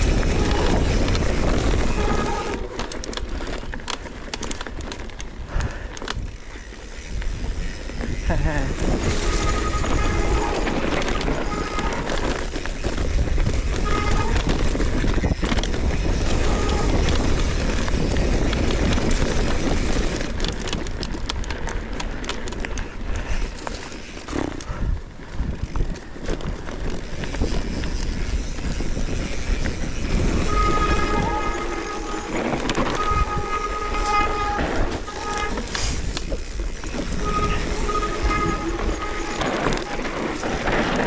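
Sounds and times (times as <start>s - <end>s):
wind on microphone: 0.0s - 2.8s, 5.4s - 21.4s, 24.3s - 41.0s
bicycle tyres on rough trail: 0.0s - 41.0s.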